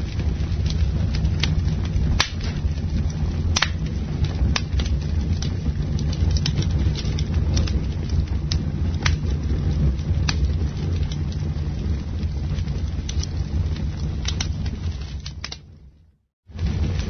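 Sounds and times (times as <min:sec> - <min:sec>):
campfire flames rumbling: 0:00.0 - 0:17.0
fire crackles and pops: 0:00.0 - 0:17.0.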